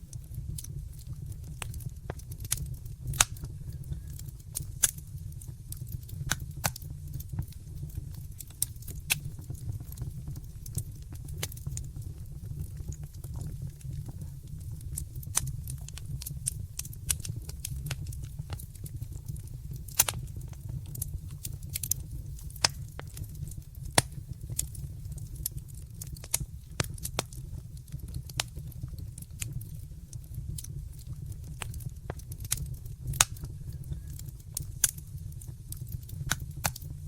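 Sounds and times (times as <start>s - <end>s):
fire crackling: 0.0s - 37.0s
low fire rumble: 0.0s - 37.0s.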